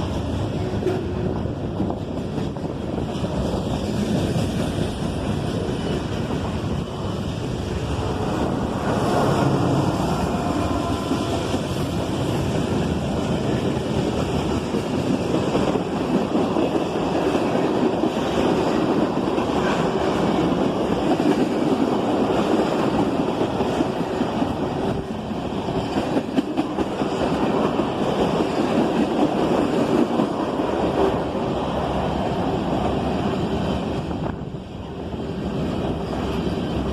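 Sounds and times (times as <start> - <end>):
train wheels rumbling on rails: 0.0 - 36.9
wind on microphone: 0.0 - 36.9.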